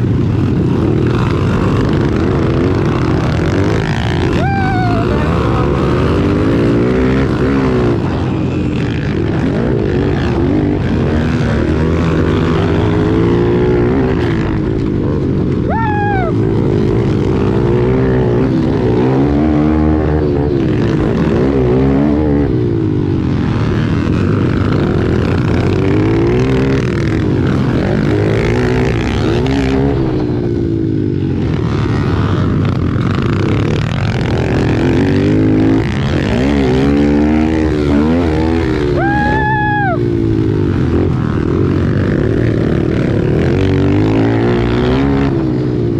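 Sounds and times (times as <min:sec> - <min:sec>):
pit bike engines revving: 0:00.0 - 0:45.9.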